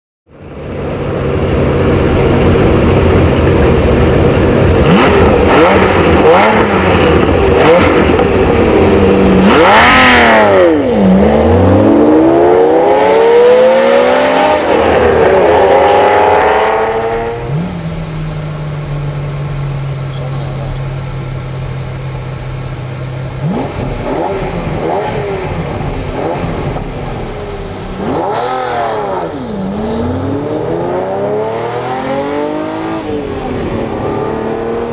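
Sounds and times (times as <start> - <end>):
engine drone inside car cabin: 0.3 - 11.9, 12.5 - 34.9
sports car engines revving and passing: 0.5 - 21.7, 23.1 - 34.9.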